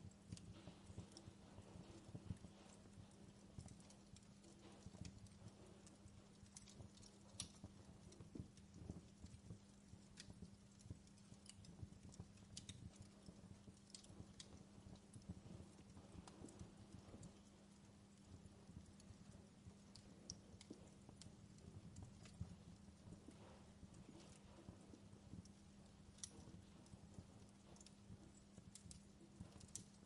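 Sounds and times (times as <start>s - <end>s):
fireplace crackling: 0.0s - 30.0s.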